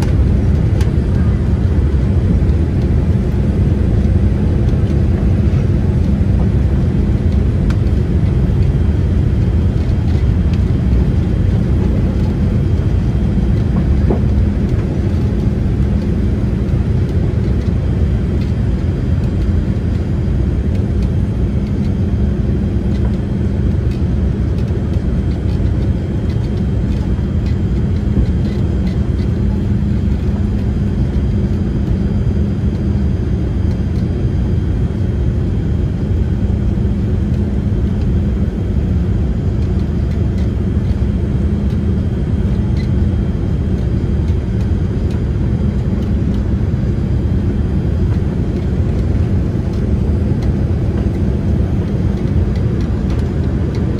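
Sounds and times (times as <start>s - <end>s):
airliner cabin engine rumble: 0.0s - 53.9s
constant hum: 0.0s - 53.9s.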